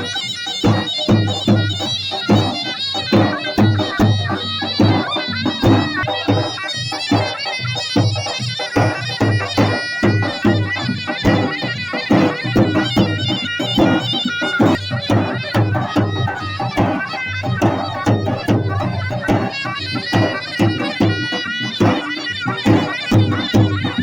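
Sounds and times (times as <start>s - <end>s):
beating drum: 0.0s - 24.0s
shrill reed pipe melody: 0.0s - 24.0s.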